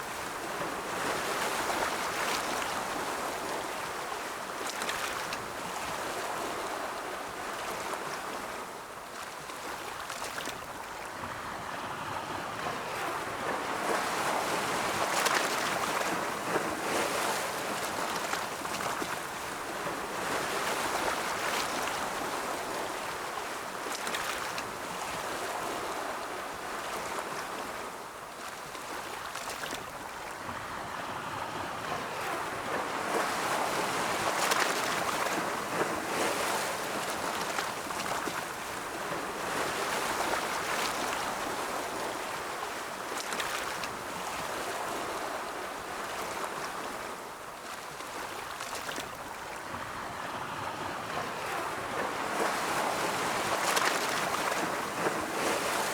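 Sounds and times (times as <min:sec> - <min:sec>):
ocean waves washing on shore: 0:00.0 - 0:55.9.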